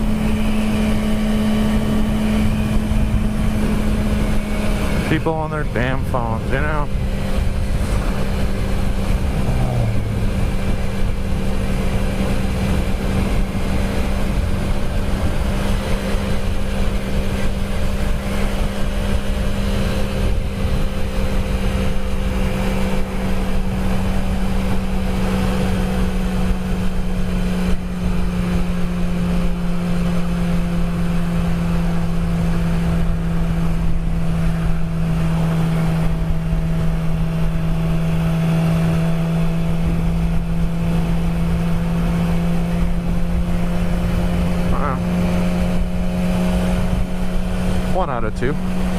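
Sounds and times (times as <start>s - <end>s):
motorcycle engine cruising: 0.0s - 48.9s
wind rushing over microphone: 0.0s - 48.9s.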